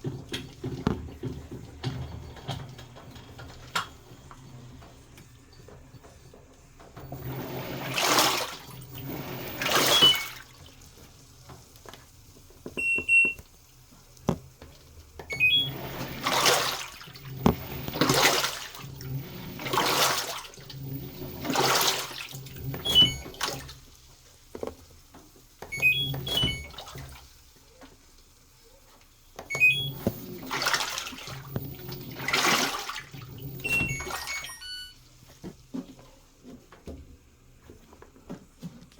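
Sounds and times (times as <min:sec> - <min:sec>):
washing machine drum sloshing: 0:00.0 - 0:38.9.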